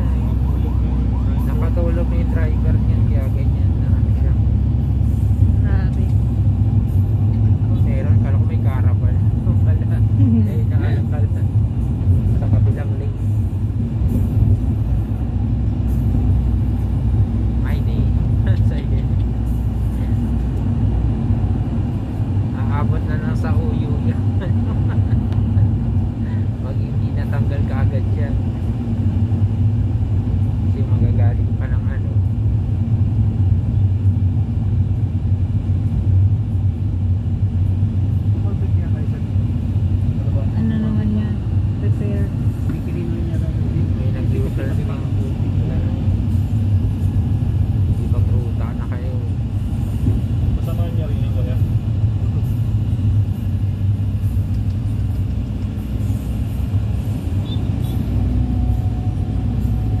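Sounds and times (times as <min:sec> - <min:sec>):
bus passing close: 0:00.0 - 1:00.0
vehicle engine and tyres rumbling: 0:00.0 - 1:00.0.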